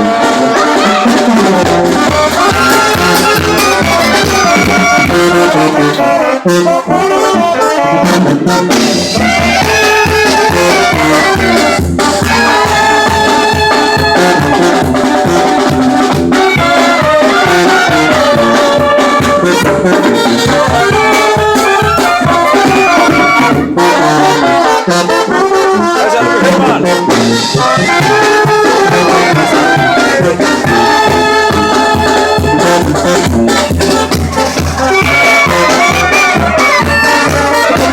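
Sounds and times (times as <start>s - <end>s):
brass band playing: 0.0s - 37.9s.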